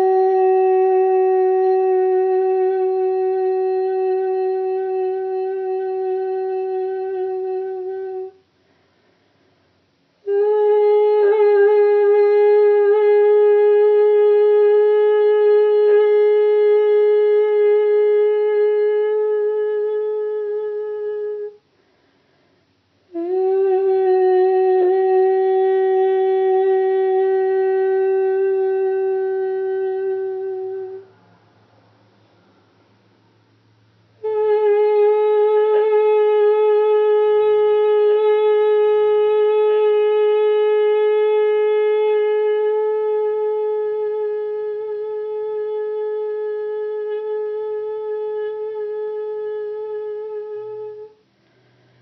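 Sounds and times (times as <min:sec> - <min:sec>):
person singing long held notes: 0:00.0 - 0:08.4, 0:10.2 - 0:21.6, 0:23.1 - 0:31.2, 0:34.2 - 0:51.2.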